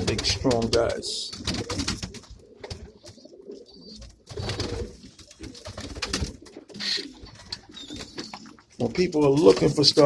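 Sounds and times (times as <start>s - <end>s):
pigeons cooing: 0.0s - 9.8s.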